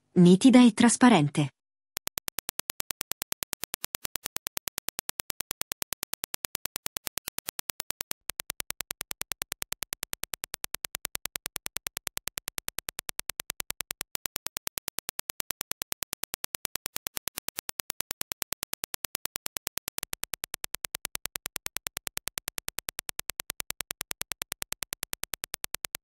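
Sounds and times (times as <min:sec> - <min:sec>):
rapid test-signal clicks: 0:02.0 - 0:26.0.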